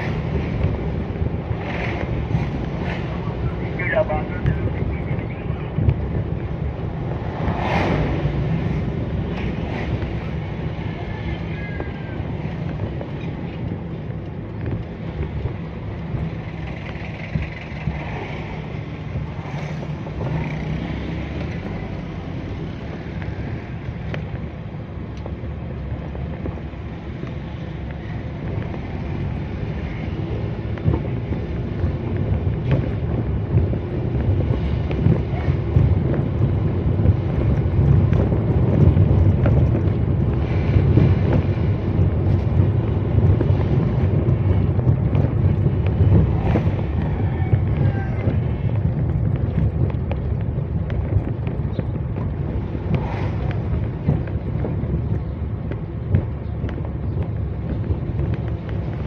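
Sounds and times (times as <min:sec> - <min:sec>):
vehicle engine and road noise: 0:00.0 - 0:59.0
wind rumbling on microphone: 0:00.0 - 0:59.0.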